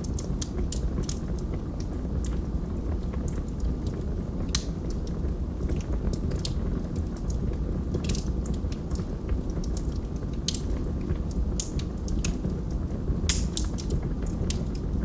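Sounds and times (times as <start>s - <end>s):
wood popping and crackling: 0.0s - 2.5s, 3.1s - 15.0s
fire roaring in fireplace: 0.0s - 15.0s.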